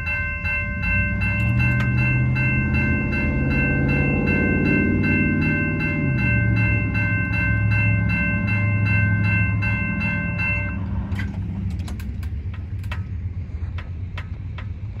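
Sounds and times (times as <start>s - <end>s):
low train rumble: 0.0s - 15.0s
railroad crossing bell ringing: 0.0s - 15.0s.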